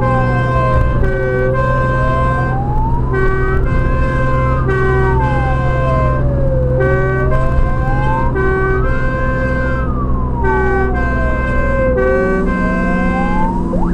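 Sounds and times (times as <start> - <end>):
truck engine and road noise: 0.0 - 13.9
two-tone siren horn: 0.0 - 13.9
wailing siren: 0.0 - 13.9.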